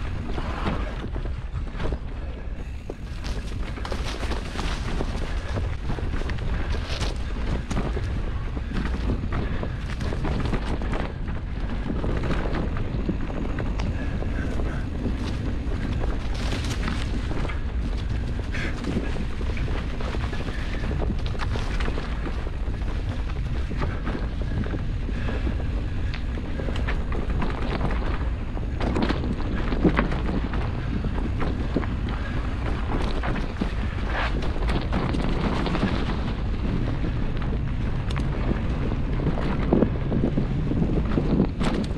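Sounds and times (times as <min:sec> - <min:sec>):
bike rattling and knocking: 0:00.0 - 0:41.9
bike tyres rolling on dirt: 0:00.0 - 0:41.9
wind buffeting microphone: 0:00.0 - 0:41.9.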